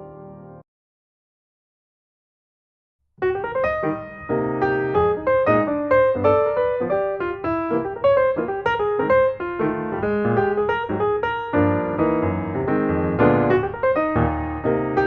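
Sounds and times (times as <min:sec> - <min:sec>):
piano melody: 0:00.0 - 0:00.6, 0:03.2 - 0:15.0.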